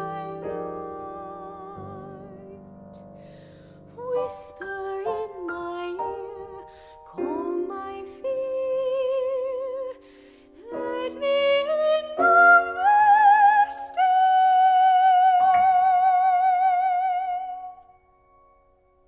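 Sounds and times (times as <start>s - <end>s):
operatic soprano singing: 0.0s - 2.7s, 3.9s - 17.9s
piano chords: 0.0s - 19.0s.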